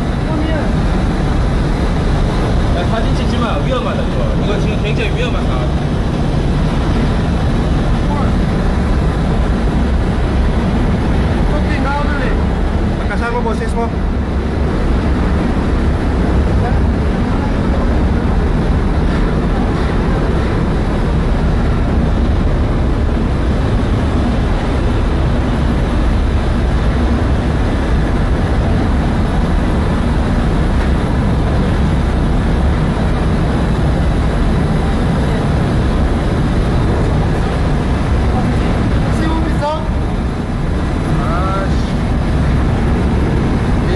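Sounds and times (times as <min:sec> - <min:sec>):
ship engine drone: 0:00.0 - 0:43.9.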